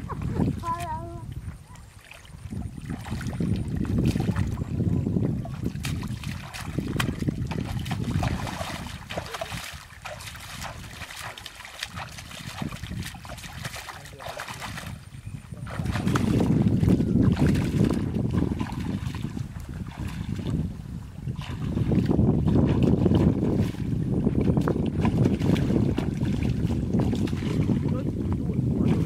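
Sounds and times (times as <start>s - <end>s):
wind buffeting microphone: 0.0s - 29.0s
hands splashing in muddy water: 2.0s - 20.6s, 21.3s - 28.0s.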